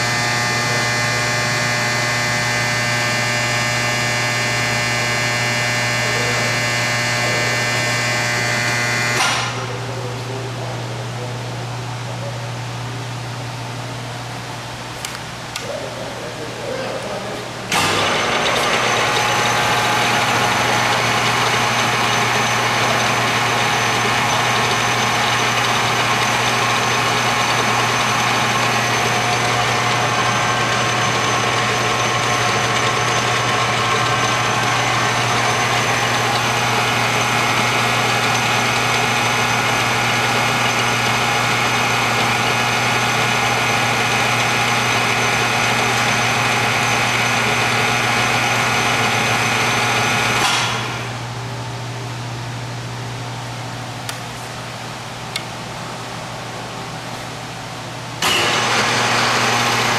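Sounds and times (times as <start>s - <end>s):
high machine whine: 0.0s - 59.9s
lathe motor and gear hum: 0.0s - 59.9s.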